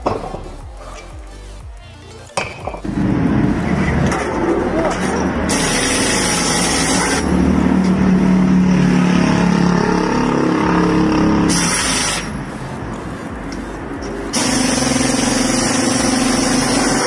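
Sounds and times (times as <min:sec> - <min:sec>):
steady rushing noise: 0:02.6 - 0:17.0.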